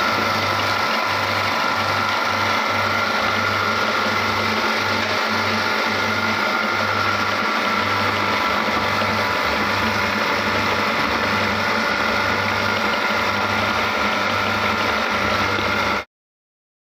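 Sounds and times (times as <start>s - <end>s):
electric meat grinder running: 0.0s - 16.1s.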